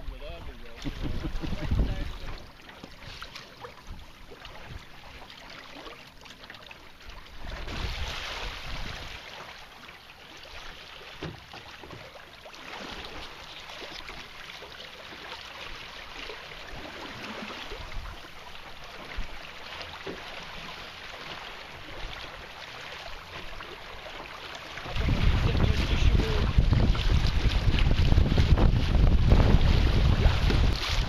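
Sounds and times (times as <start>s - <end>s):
water lapping against canoe hull: 0.0s - 31.0s.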